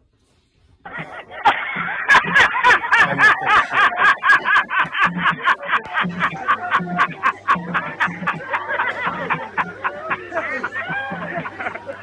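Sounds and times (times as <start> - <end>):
man laughing: 0.9 - 12.0.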